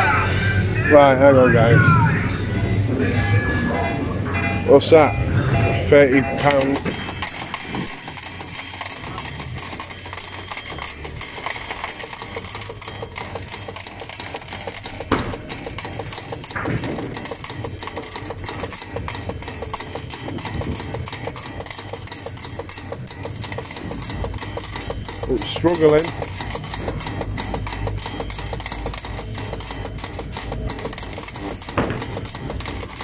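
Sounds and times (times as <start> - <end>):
low arcade hum: 0.0 - 33.0
fruit machines clattering: 2.6 - 33.0.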